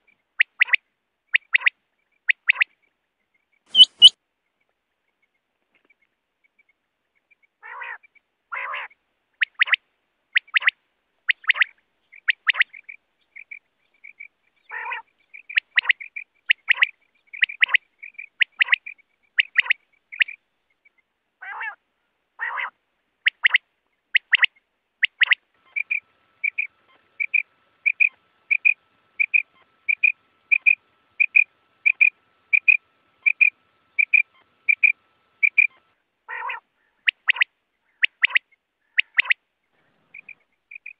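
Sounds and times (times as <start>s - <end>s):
quail calling: 0.4s - 2.7s, 3.7s - 4.2s, 7.6s - 9.8s, 10.4s - 20.4s, 21.4s - 21.8s, 22.4s - 40.9s
rasping quail calls: 0.4s - 2.7s, 3.7s - 4.2s, 7.6s - 9.8s, 10.4s - 20.4s, 21.4s - 21.8s, 22.4s - 40.9s.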